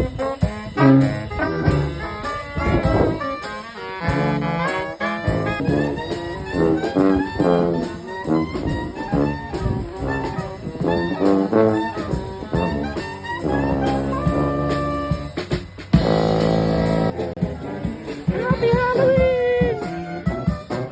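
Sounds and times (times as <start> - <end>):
brass band playing jazz: 0.0 - 20.9.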